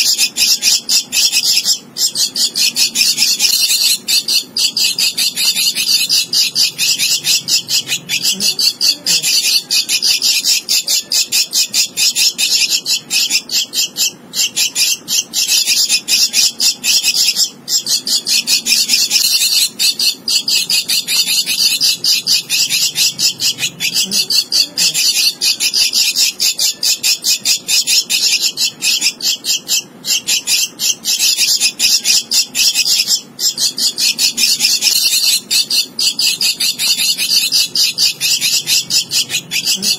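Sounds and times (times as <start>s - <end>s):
nestling raspy begging calls: 0.0s - 39.9s.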